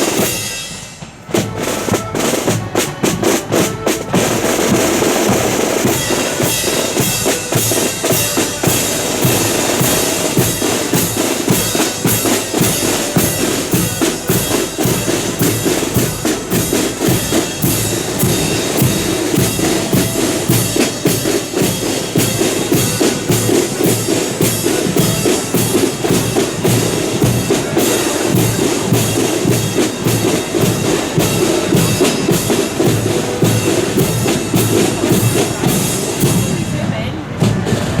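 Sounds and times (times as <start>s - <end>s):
bass drum and snare march beat: 0.0s - 38.0s
accordions playing a tune: 1.2s - 36.1s.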